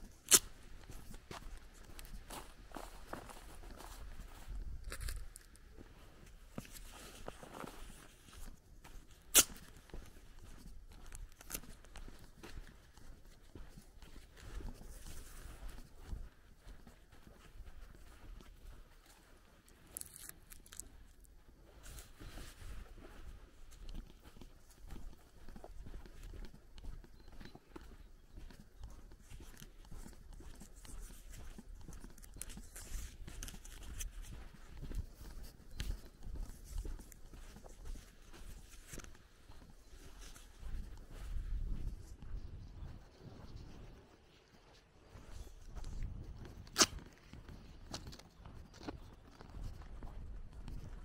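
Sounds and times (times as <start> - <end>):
footsteps on grass and dirt: 0.0 - 51.0.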